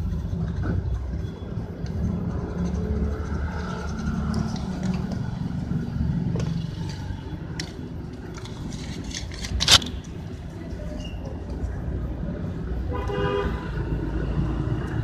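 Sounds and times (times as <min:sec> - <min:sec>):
low vehicle rumble: 0:00.0 - 0:12.9.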